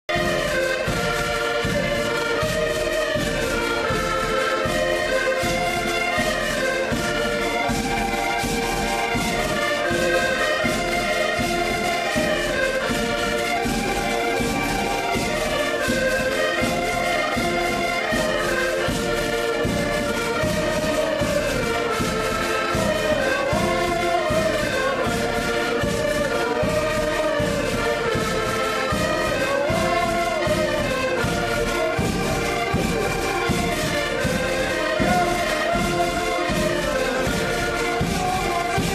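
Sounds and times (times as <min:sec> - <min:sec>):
button accordions playing folk tune: 0:00.0 - 0:38.9.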